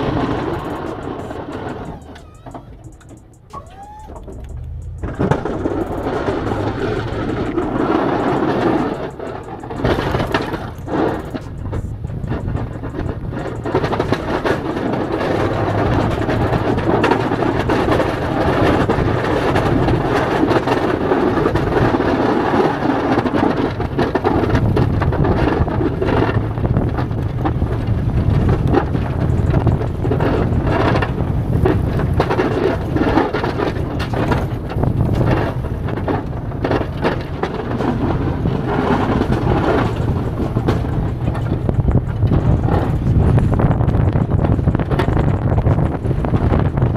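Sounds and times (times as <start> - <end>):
irregular knocks: 0.0 - 21.8, 23.3 - 46.9
truck engine and tyre noise: 0.0 - 46.9
wind on microphone: 0.0 - 46.9.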